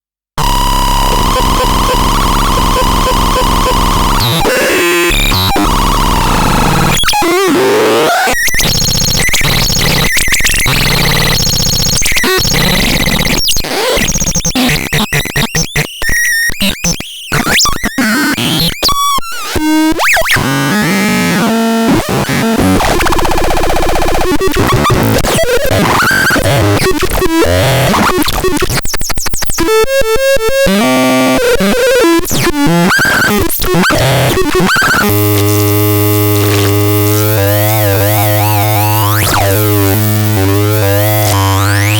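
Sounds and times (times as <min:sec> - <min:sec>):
chaotic electronic synthesizer noise: 0:00.4 - 0:16.9, 0:19.6 - 0:41.9.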